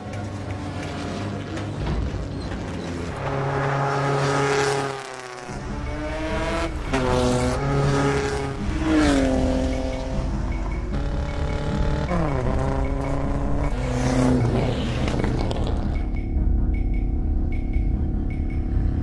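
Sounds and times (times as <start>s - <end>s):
race car engines revving past: 0.0s - 16.2s.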